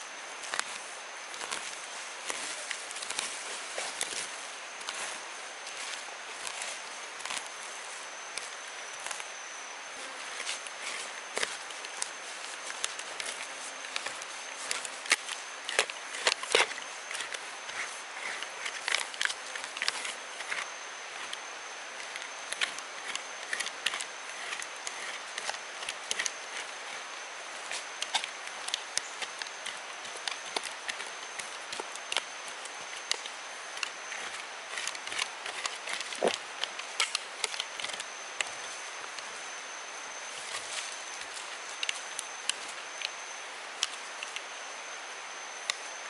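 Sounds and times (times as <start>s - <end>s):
high-pitched insect tone: 0.0s - 46.0s
steady forest hiss: 0.0s - 46.0s
twigs and leaves crackling: 0.3s - 44.6s.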